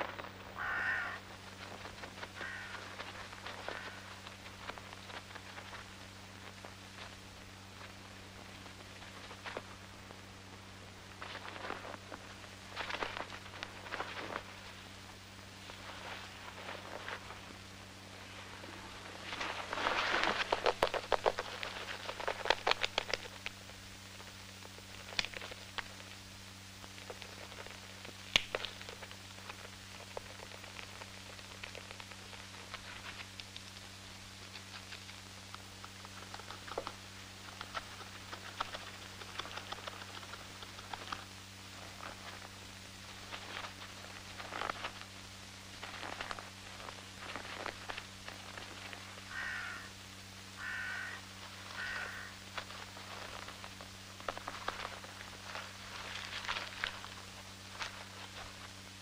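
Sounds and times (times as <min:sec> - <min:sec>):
steady low hum: 0:00.0 - 0:59.0
squirrel gnawing and cracking nut: 0:00.1 - 0:10.1, 0:19.6 - 0:26.2, 0:26.8 - 0:49.9, 0:50.6 - 0:58.8.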